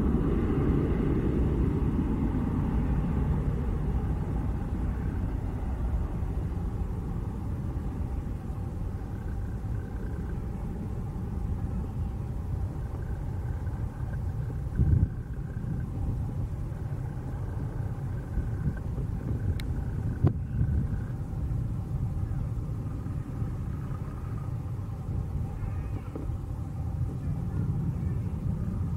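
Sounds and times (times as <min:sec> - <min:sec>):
jet engines rumbling: 0:00.0 - 0:28.9.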